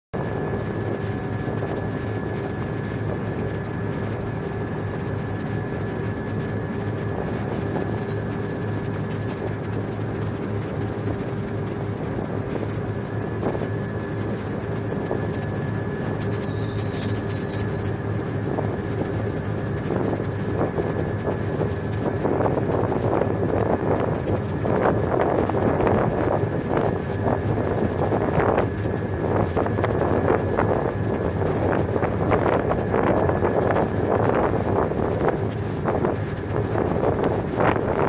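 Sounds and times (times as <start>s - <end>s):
steady engine whine: 0.1s - 38.0s
boat engines humming: 0.2s - 38.0s
wind and water hiss: 0.2s - 38.0s.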